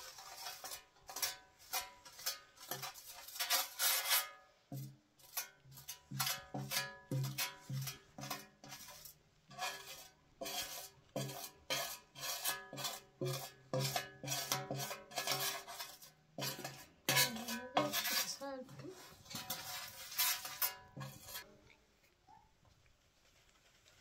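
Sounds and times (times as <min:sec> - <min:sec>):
metal utensil scraping a metal pot: 0:00.0 - 0:21.6.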